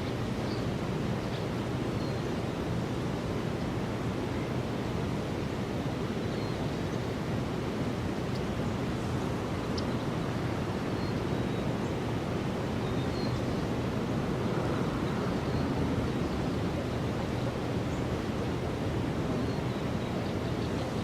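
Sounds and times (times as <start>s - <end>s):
steady outdoor rushing noise: 0.0s - 21.0s.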